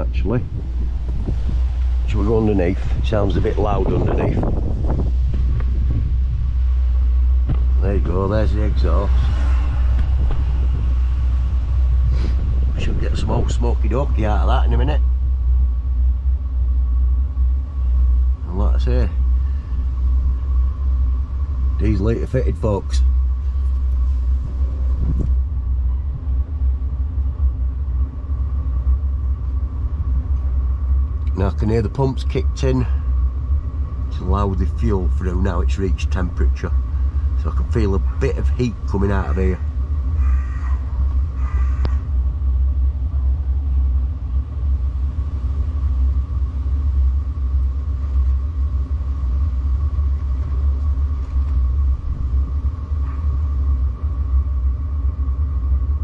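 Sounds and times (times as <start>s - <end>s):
diesel air heater rumble: 0.0s - 56.0s
heater whine: 0.0s - 56.0s.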